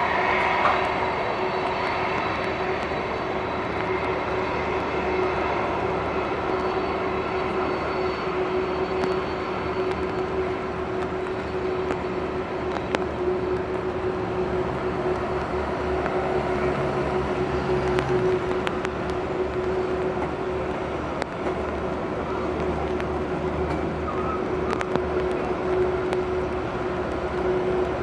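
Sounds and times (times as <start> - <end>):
aircraft engine whine: 0.0 - 28.0
low hum: 0.0 - 28.0
rush of noise: 0.0 - 28.0.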